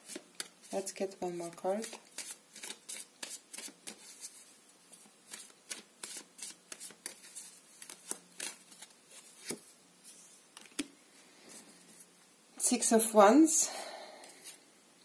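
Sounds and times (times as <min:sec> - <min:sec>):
cards being shuffled by hand: 0:00.0 - 0:12.1.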